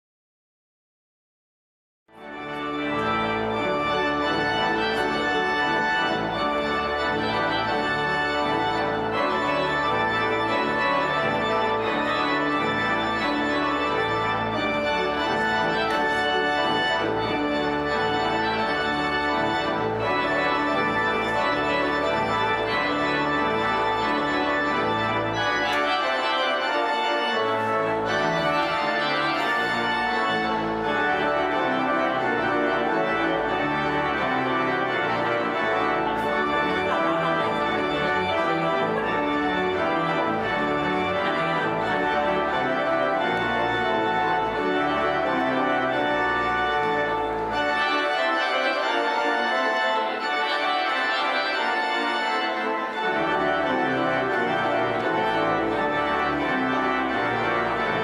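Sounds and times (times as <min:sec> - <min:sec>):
organ playing chords: 0:02.2 - 0:58.0.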